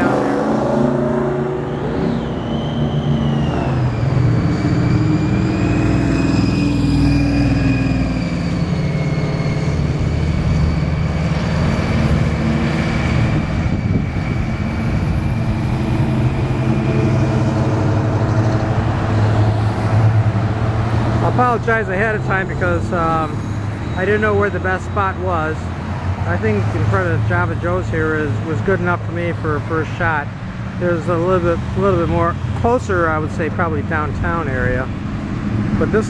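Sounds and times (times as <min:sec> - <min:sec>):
high whine: 0:00.0 - 0:29.4
car engines rumbling past: 0:00.0 - 0:36.0.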